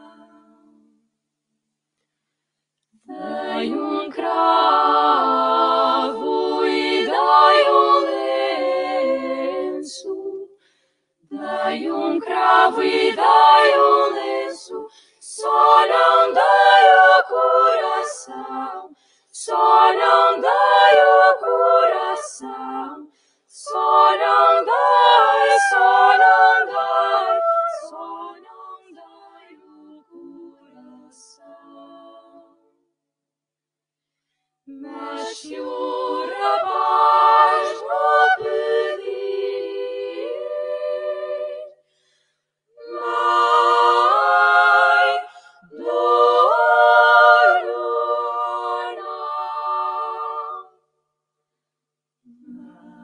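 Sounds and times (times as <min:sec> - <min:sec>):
female choir singing a cappella: 0:00.0 - 0:01.0, 0:03.0 - 0:32.8, 0:34.7 - 0:50.9, 0:52.2 - 0:53.0.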